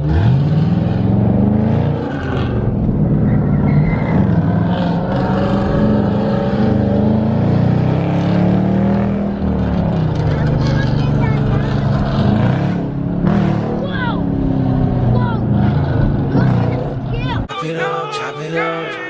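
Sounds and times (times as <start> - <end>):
car engine revving hard: 0.0 - 17.5.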